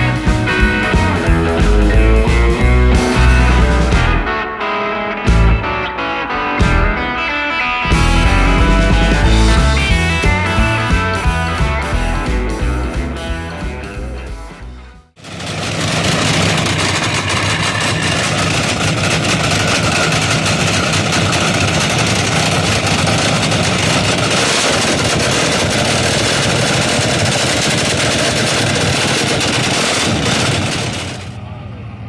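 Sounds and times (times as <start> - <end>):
car engine idling: 0.0 - 4.4, 7.9 - 32.0.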